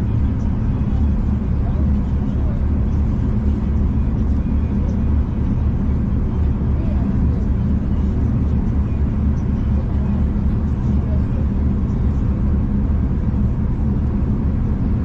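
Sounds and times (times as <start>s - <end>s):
train rumbling from inside carriage: 0.0s - 15.0s.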